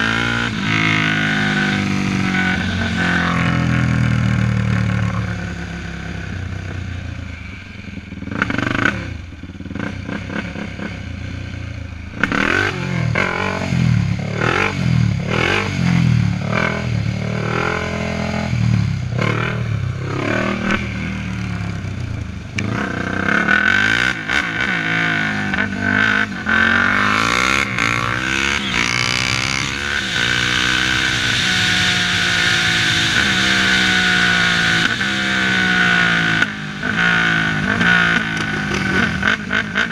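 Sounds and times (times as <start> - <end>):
quad engine revving: 0.0 - 6.4, 12.2 - 39.9.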